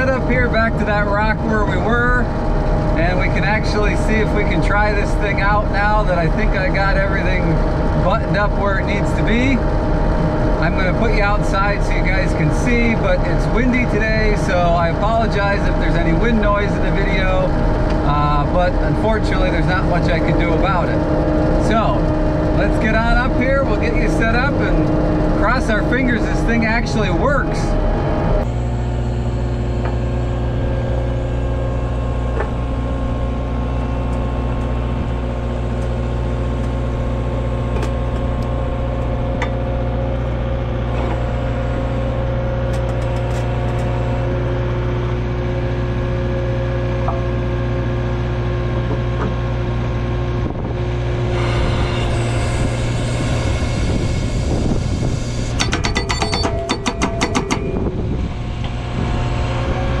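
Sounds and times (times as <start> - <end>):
skid steer engine running: 0.0 - 60.0.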